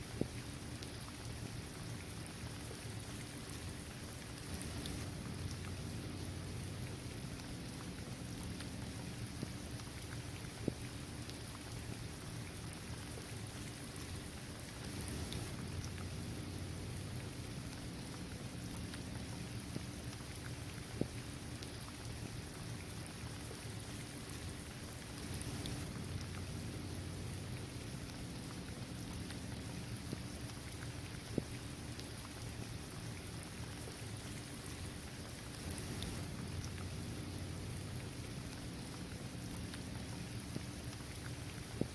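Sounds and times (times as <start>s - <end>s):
rain falling on pavement: 0.2s - 41.9s.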